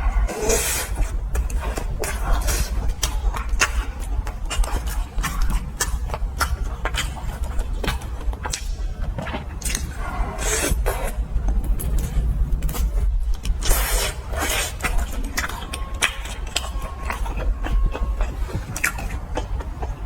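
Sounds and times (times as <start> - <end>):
chewing and crunching food: 0.0 - 20.0
low rumble: 0.0 - 20.0
wet mouth noises: 0.0 - 20.0.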